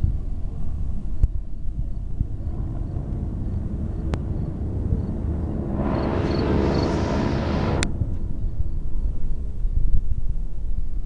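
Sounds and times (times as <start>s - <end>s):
aircraft engine noise: 0.0s - 11.0s
wind rumble on microphone: 0.0s - 11.0s.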